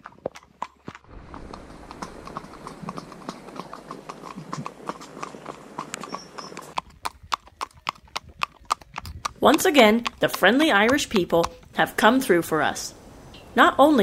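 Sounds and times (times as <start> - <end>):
horse hooves clopping on wet tarmac: 0.0 - 12.5.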